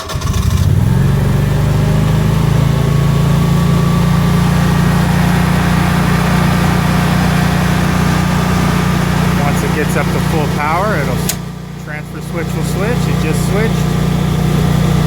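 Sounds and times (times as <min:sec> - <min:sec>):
generator engine running: 0:00.0 - 0:15.0.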